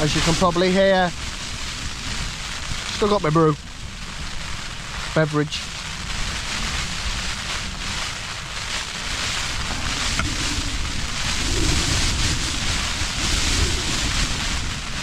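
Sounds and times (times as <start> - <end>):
strong wind gusting against a tent: 0.0 - 15.0.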